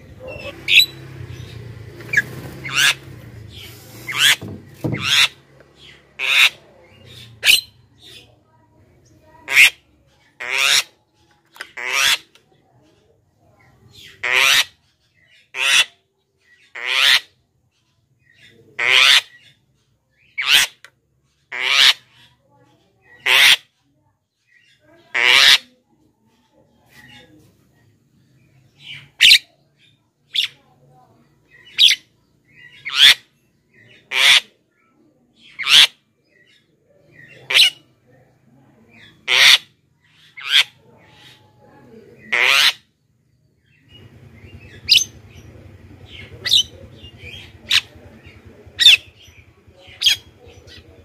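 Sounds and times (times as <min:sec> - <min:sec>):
myna bird harsh calls: 0:00.0 - 0:12.6, 0:13.6 - 0:17.6, 0:18.2 - 0:25.8, 0:26.9 - 0:27.5, 0:28.2 - 0:34.7, 0:35.3 - 0:51.0.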